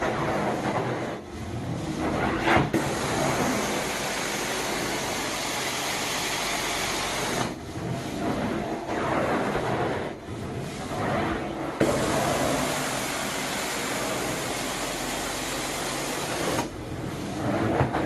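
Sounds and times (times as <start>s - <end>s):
vacuum suction rushing air: 0.0s - 18.0s.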